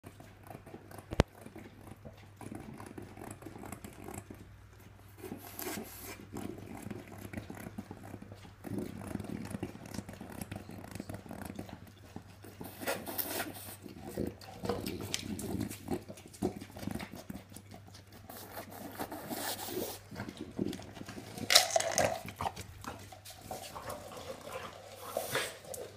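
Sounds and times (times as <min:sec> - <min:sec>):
dog snuffling and licking in jar: 0:00.1 - 0:25.9.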